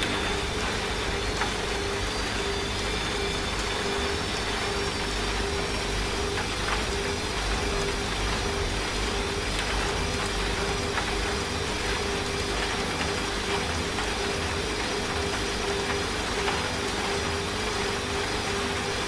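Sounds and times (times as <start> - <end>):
rain hissing: 0.0 - 19.0
washing machine running: 0.0 - 19.0.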